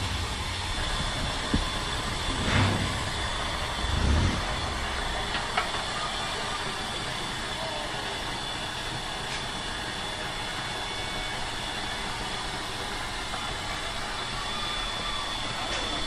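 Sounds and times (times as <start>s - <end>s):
loud steam gusts: 0.0s - 16.0s
steam locomotive hissing steam: 0.0s - 16.0s.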